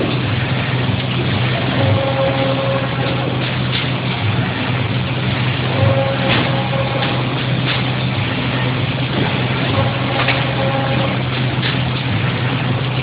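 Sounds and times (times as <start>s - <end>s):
low hum: 0.0s - 13.0s
machine running: 0.0s - 13.0s.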